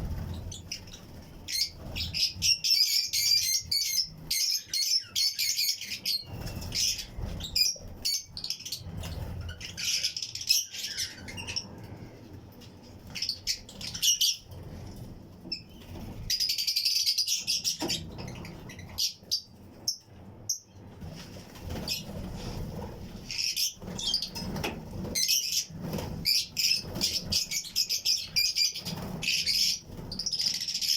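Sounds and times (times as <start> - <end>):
wings flapping: 0.0 - 4.8, 5.7 - 16.7, 21.0 - 30.9
birds chirping: 0.0 - 30.9.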